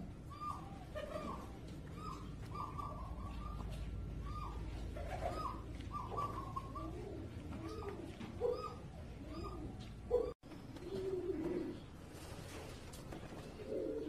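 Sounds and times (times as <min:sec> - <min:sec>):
deeper pigeon coos: 0:00.0 - 0:12.2, 0:13.2 - 0:14.0
pigeons cooing: 0:00.0 - 0:14.0.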